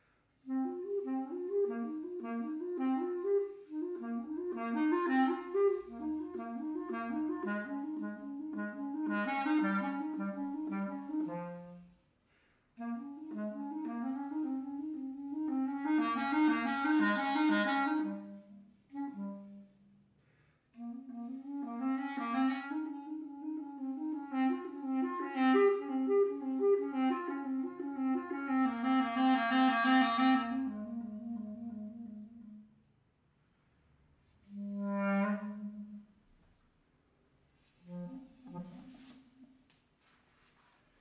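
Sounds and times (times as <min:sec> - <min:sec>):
solo wind instrument melody: 0:00.4 - 0:12.1, 0:12.8 - 0:20.1, 0:20.7 - 0:32.9, 0:34.4 - 0:36.4, 0:37.6 - 0:39.7.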